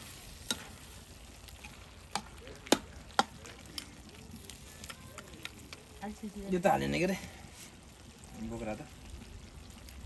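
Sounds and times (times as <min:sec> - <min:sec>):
food sizzling in pot: 0:00.0 - 0:10.0.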